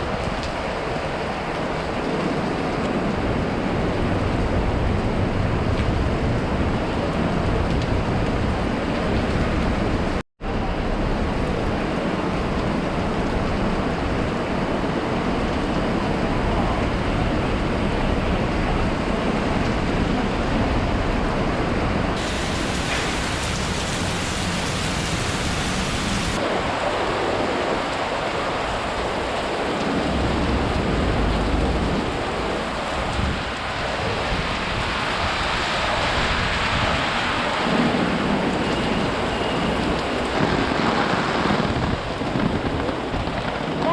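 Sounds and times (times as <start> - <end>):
gusting wind: 0.0 - 43.9
heavy rain: 0.0 - 43.9.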